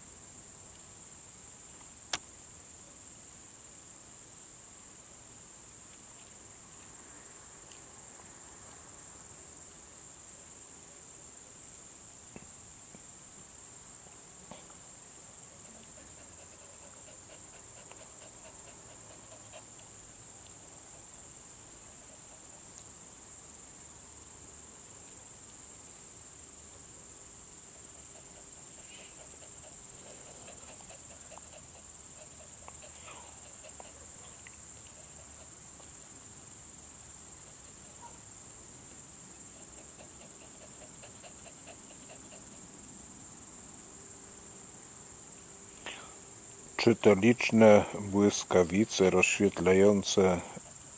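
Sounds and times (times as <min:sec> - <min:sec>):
night insects chirring: 0:00.0 - 0:50.9.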